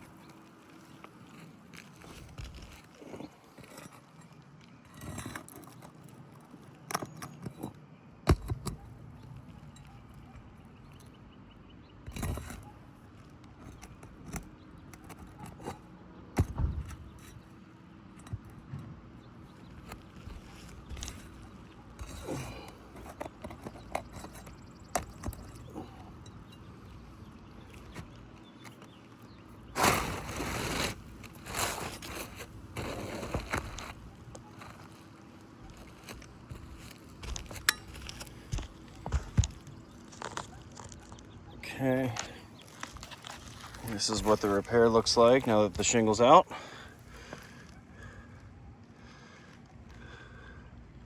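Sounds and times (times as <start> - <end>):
scraping and knocking on roof shingle: 0.0 - 11.2, 11.8 - 48.2.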